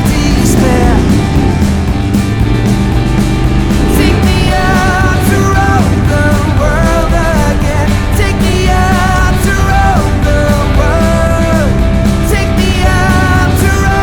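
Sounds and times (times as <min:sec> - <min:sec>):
rock song: 0:00.0 - 0:14.0.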